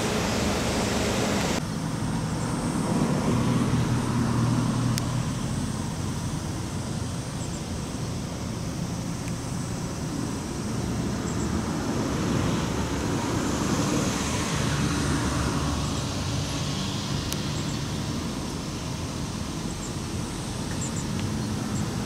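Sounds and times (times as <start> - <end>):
engine and traffic rumble: 0.0 - 22.0.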